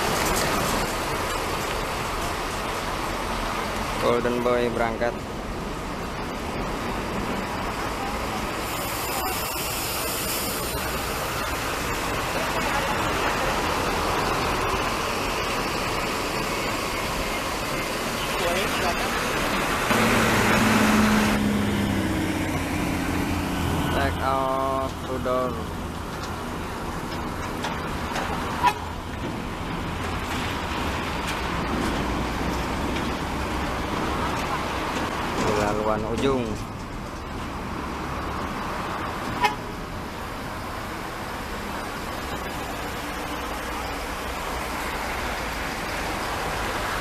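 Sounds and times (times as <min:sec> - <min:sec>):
coach diesel engine rumbling: 0:00.0 - 0:47.0.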